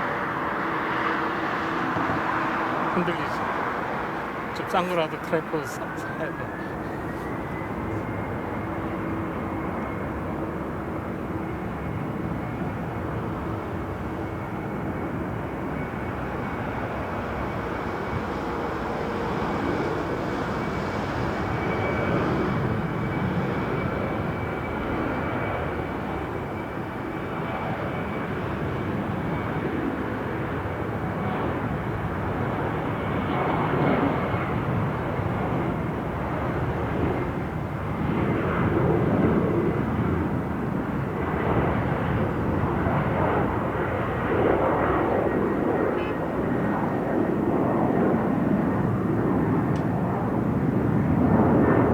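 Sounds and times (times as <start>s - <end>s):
jet airliner engines roaring: 0.0s - 51.9s.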